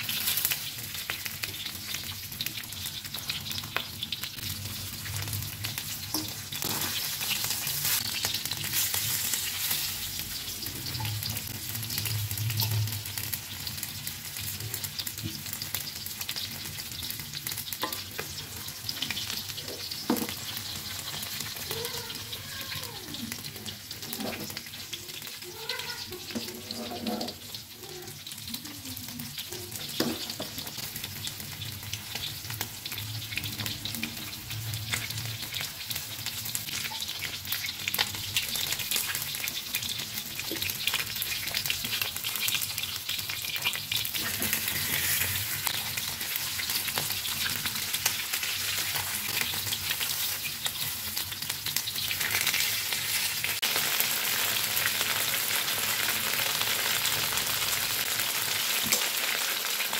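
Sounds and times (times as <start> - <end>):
chicken frying in oil: 0.0 - 59.9.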